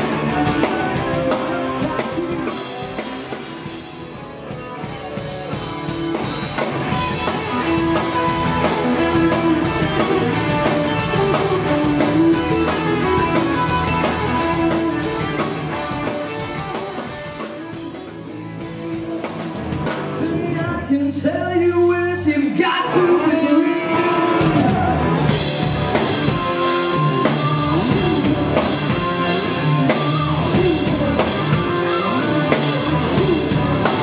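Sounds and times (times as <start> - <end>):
drum kit beat: 0.0 - 20.8, 24.0 - 34.0
bass: 0.0 - 34.0
electric guitars: 0.0 - 34.0.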